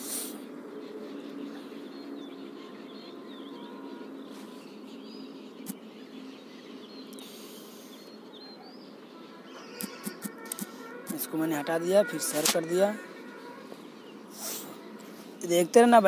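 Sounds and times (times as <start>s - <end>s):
faint bird chirps: 0.0s - 15.5s
steady background noise: 0.0s - 16.0s.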